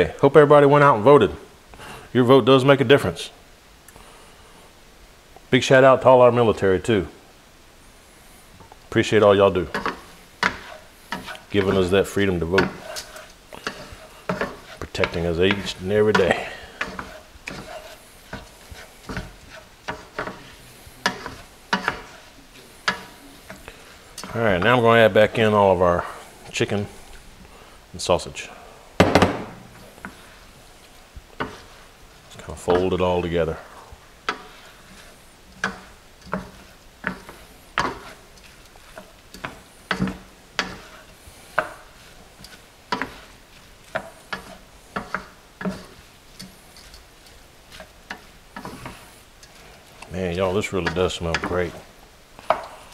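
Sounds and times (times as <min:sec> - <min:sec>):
low sizzle: 0:00.0 - 0:52.9
spoon scraping skillet: 0:07.9 - 0:28.6, 0:29.2 - 0:52.9.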